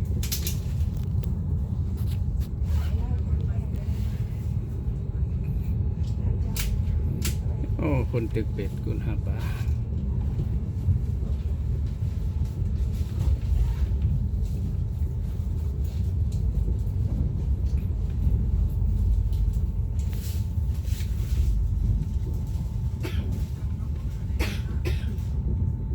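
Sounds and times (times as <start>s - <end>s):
train rumble inside carriage: 0.0s - 25.9s.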